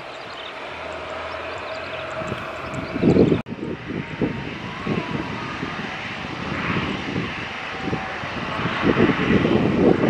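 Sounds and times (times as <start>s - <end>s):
turboprop engines running: 0.0s - 10.0s.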